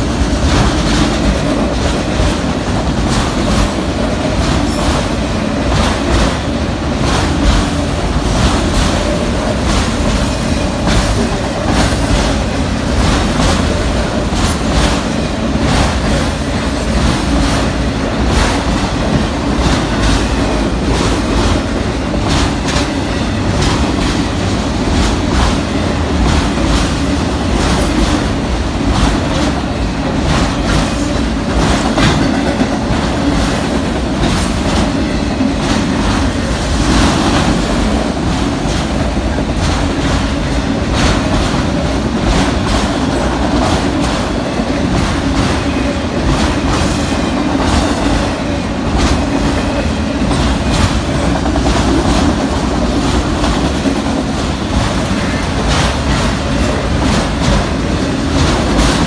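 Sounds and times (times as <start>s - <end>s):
freight train rumbling: 0.0s - 59.0s
wheels clacking on rail joints: 0.0s - 59.0s.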